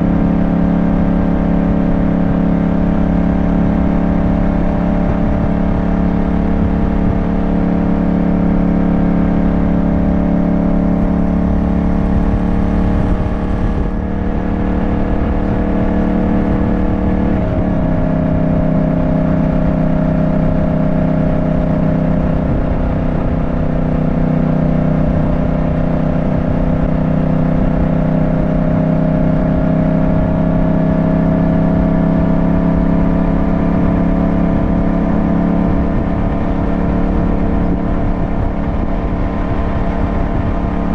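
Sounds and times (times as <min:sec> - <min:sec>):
motorcycle engine running: 0:00.0 - 0:40.9
wind rumble on microphone: 0:00.0 - 0:40.9.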